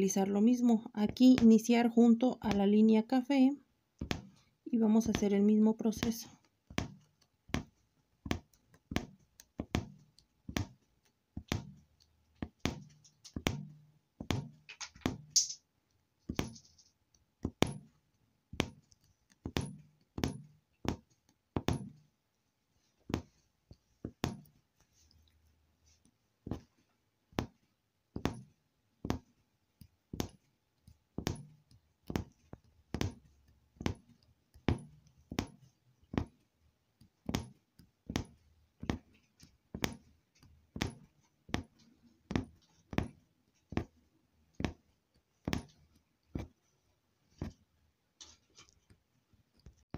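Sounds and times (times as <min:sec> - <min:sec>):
punch needle tapping through fabric: 0:00.2 - 0:22.2, 0:22.8 - 0:49.9.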